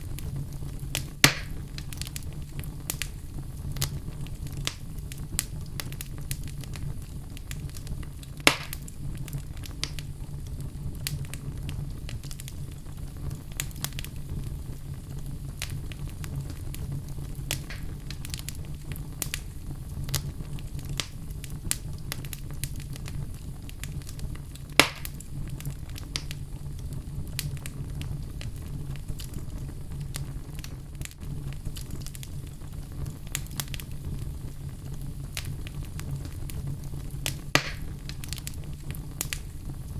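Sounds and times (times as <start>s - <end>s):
fire crackling: 0.0s - 39.9s
fire pops: 0.0s - 39.9s.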